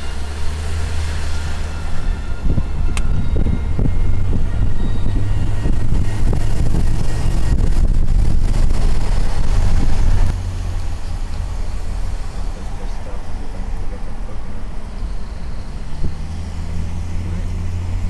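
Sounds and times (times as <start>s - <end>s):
wind and road noise in car: 0.0s - 18.0s
wind buffeting microphone: 0.4s - 18.0s.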